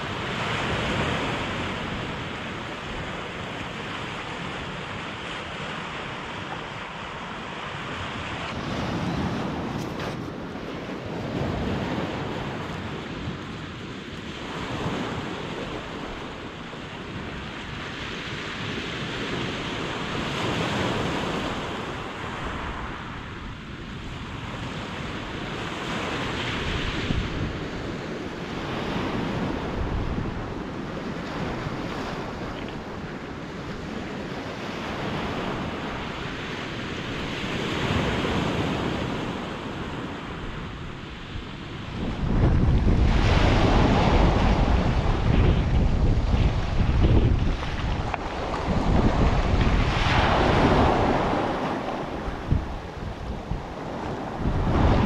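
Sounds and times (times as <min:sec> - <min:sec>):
waves breaking on stony beach: 0:00.0 - 0:55.0
wind on microphone: 0:00.0 - 0:55.0.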